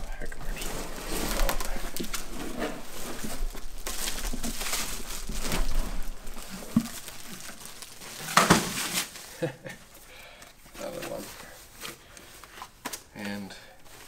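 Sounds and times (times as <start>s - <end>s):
rustling and scraping of packaging: 0.0s - 14.0s.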